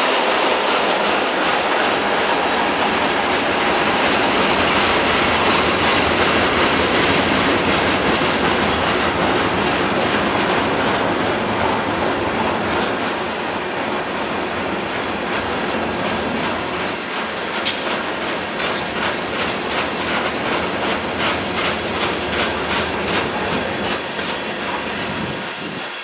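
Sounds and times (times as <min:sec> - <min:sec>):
steel wheels rumbling on rail: 0:00.0 - 0:26.0
wheels clicking over rail joints: 0:00.0 - 0:26.0.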